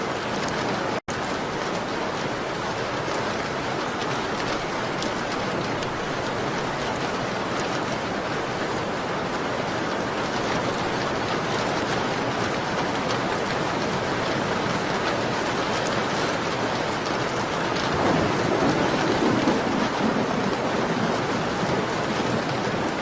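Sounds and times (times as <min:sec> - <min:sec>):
rain on a window: 0:00.1 - 0:23.0.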